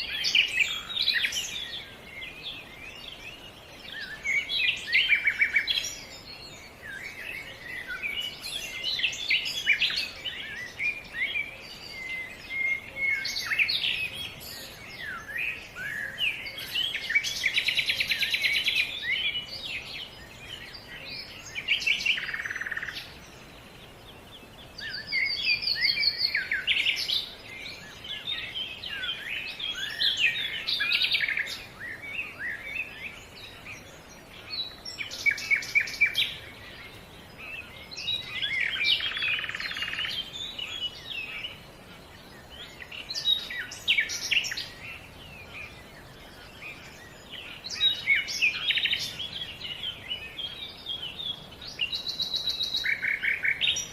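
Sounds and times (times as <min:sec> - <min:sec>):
faint steady background hiss: 0:00.0 - 0:53.9
songbirds chirping and trilling: 0:00.0 - 0:53.9.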